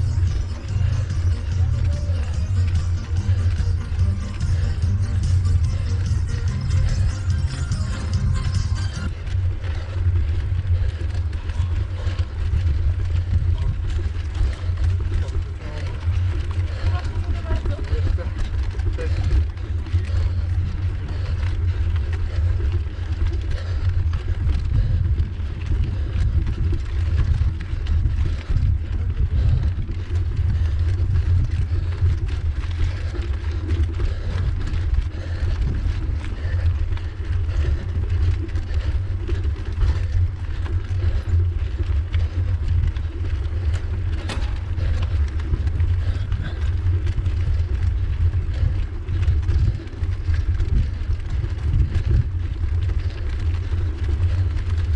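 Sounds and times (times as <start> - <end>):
bike rattling over cobblestones: 0.0 - 54.9.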